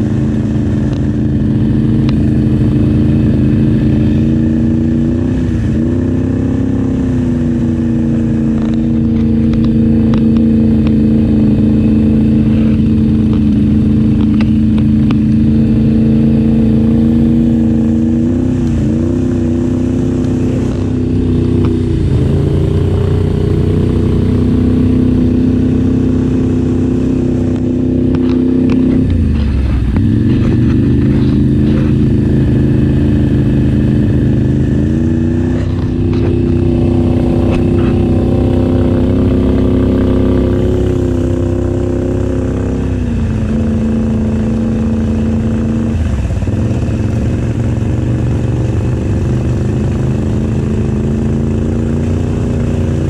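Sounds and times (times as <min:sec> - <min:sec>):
atv engines running: 0:00.0 - 0:53.0.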